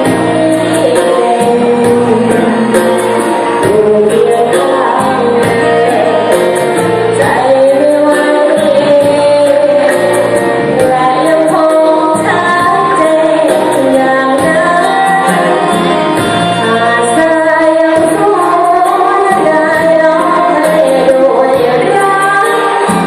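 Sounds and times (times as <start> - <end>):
band accompaniment: 0.0 - 23.0
person singing a melody: 0.0 - 23.0.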